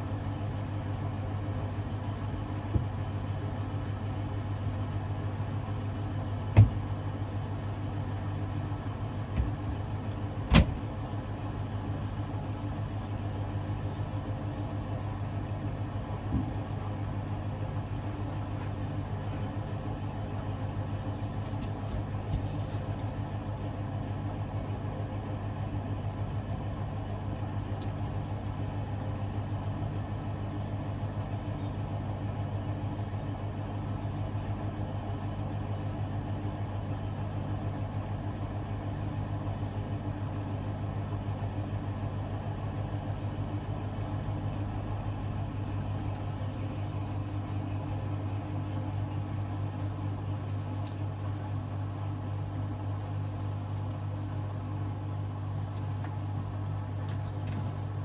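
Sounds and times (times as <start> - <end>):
washing machine humming: 0.0 - 58.0.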